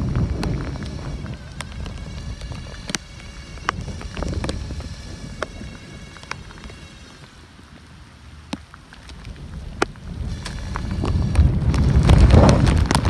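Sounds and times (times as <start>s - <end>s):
dripping rain ticks: 0.0s - 13.0s
wind buffeting microphone: 0.0s - 13.0s.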